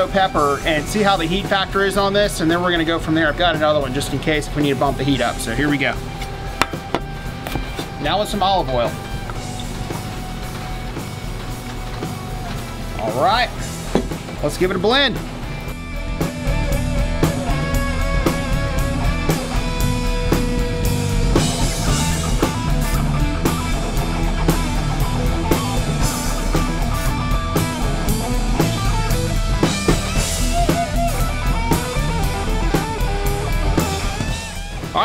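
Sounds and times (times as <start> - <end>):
bass: 0.0 - 35.0
drum kit beat: 0.0 - 35.0
guitar: 0.0 - 35.0.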